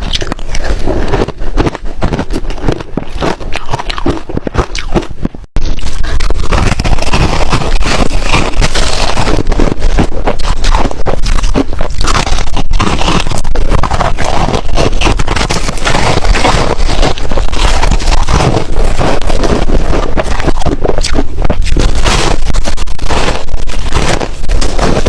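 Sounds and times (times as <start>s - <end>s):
person crunching ice: 0.0s - 25.0s.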